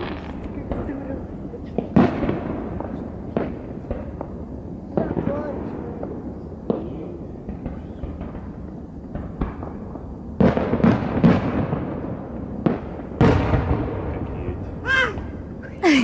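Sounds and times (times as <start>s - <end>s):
fireworks bangs with rumbling echo: 0.0s - 15.8s.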